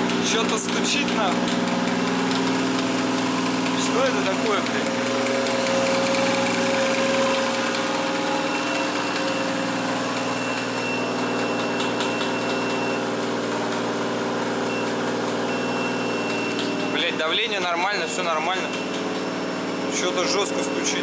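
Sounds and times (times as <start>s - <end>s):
car engine idling with knock: 0.0s - 20.9s.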